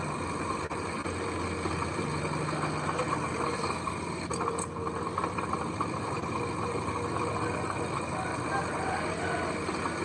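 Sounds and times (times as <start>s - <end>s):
heavy machinery diesel engine: 0.0s - 10.0s.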